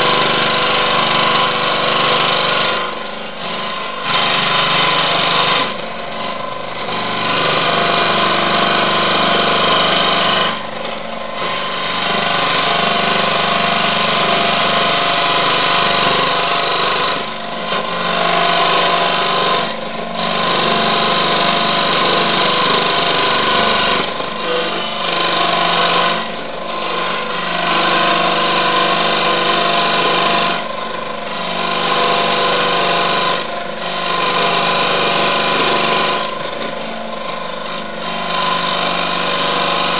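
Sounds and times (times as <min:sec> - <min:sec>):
scroll saw cutting metal: 0:00.0 - 0:39.9.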